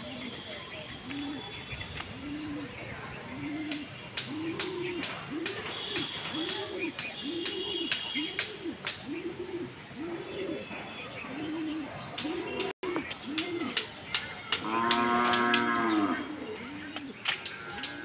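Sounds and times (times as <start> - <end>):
bird cooing: 0.0 - 18.0.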